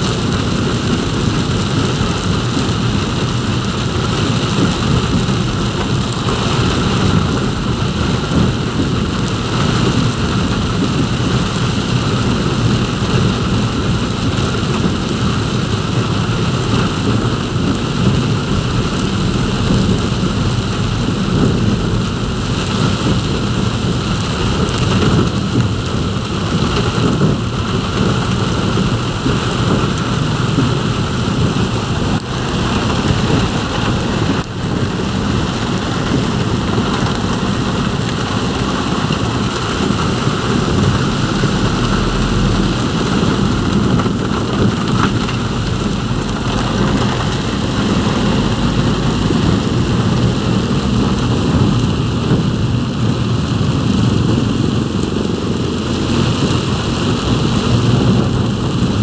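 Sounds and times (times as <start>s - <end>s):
deep rumble: 0.0s - 59.0s
heavy rain on vehicle roof: 0.0s - 59.0s.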